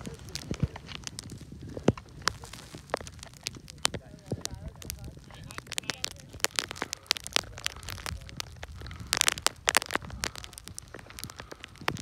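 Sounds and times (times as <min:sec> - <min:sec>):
skis crunching in snow: 0:00.0 - 0:12.0
wind rumble on microphone: 0:00.0 - 0:12.0.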